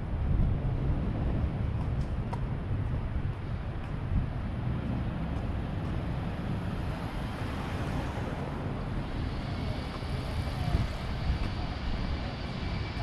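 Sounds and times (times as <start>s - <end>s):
city traffic hum: 0.0s - 13.0s
wind rumbling on microphone: 0.0s - 13.0s.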